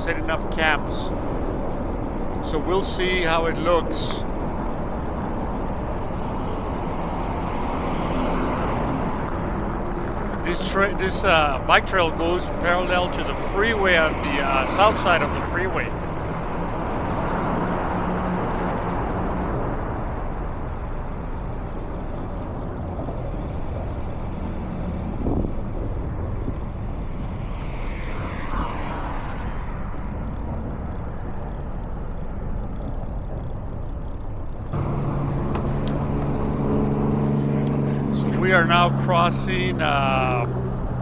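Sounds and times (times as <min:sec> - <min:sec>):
low engine hum: 0:00.0 - 0:41.0
passing cars: 0:00.0 - 0:41.0.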